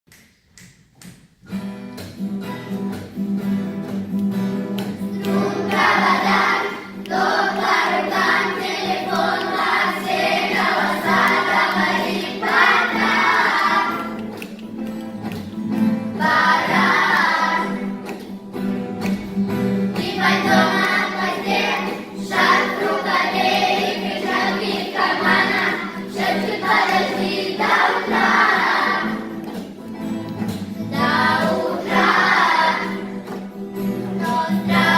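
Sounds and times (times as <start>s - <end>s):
steady musical accompaniment: 0.2s - 34.9s.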